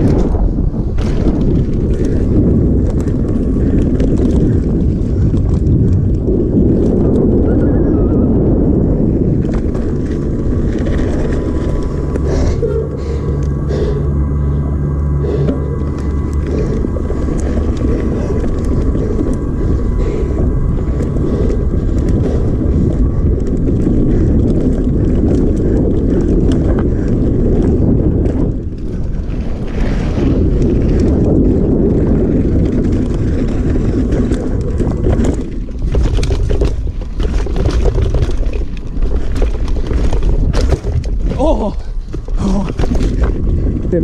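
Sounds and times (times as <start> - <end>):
bike rattling clicks and knocks: 0.0 - 44.0
mountain bike tyre rumble: 0.0 - 44.0
wind buffeting microphone: 0.0 - 44.0.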